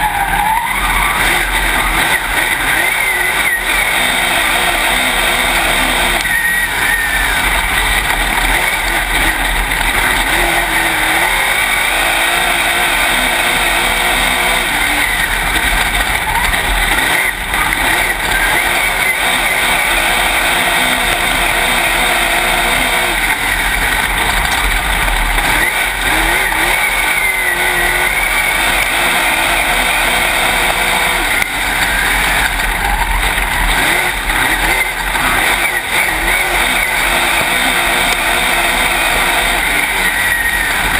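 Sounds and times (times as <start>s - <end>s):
race car engine at speed: 0.0s - 40.9s.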